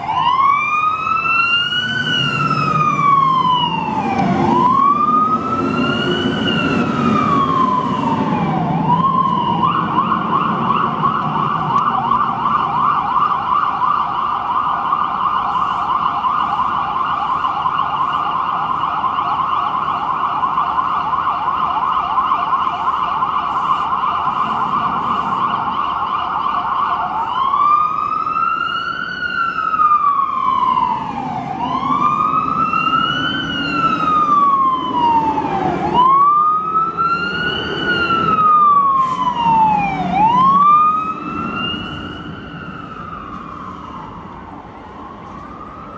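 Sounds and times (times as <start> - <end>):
fire truck siren: 0.0 - 45.9.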